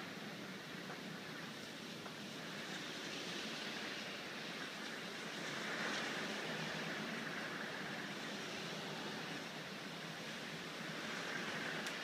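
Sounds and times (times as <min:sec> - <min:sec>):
storm wind rushing through trees: 0:00.0 - 0:12.0.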